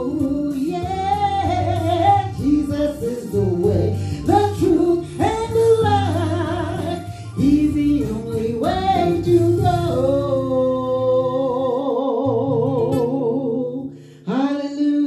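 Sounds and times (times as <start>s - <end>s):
woman singing gospel: 0.0s - 15.0s.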